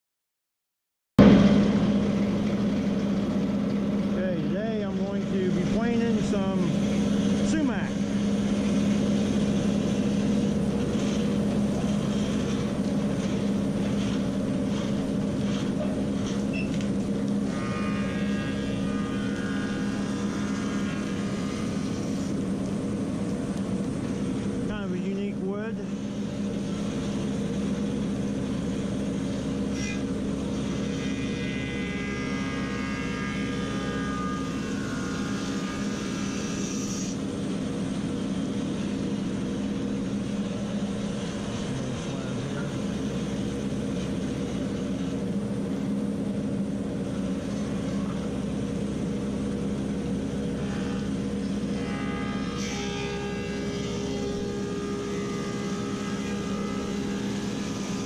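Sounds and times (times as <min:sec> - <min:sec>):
high-pitched whine: 0:01.2 - 0:58.0
thickness planer humming: 0:01.2 - 0:58.0.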